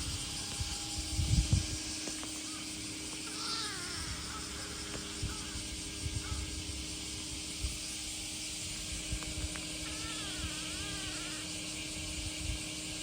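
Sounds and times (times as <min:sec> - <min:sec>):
constant low hum: 0:00.0 - 0:13.0
insect hiss: 0:00.0 - 0:13.0
wind rumbling on microphone: 0:00.0 - 0:13.0.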